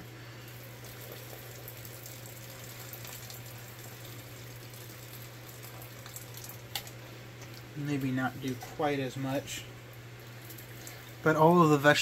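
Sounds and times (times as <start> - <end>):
broth trickling into pot: 0.0 - 12.0.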